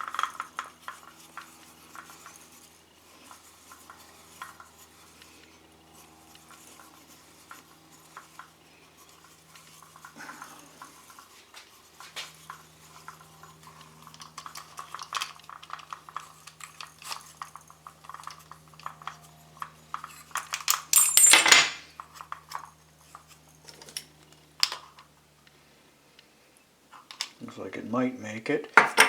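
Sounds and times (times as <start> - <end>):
small parts clicking and rattling: 0.0 - 26.3, 26.9 - 27.5.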